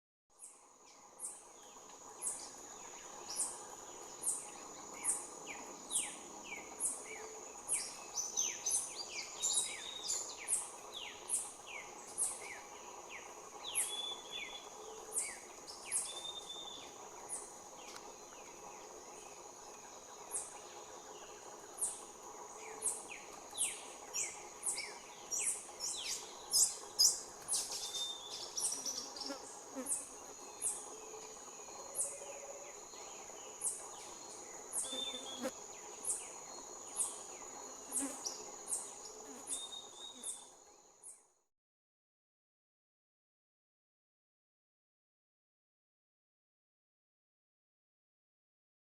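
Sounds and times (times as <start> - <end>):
high insect drone: 0.4 - 41.2.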